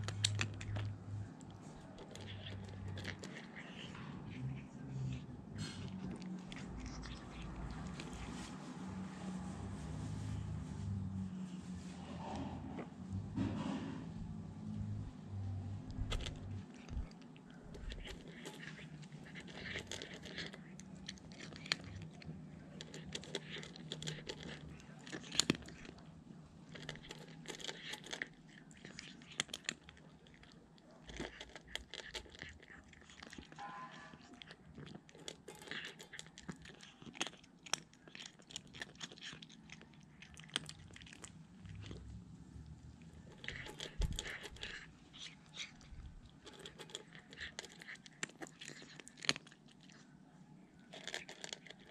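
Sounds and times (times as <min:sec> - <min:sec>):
cat crunching dry kibble: 0:00.0 - 0:11.1, 0:14.7 - 0:51.9.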